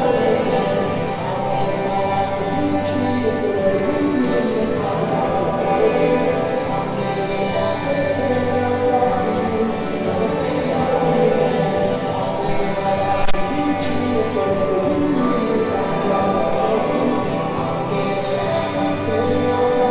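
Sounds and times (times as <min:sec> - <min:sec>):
instrumental backing: 0:00.0 - 0:19.9
voices singing together: 0:00.0 - 0:19.9.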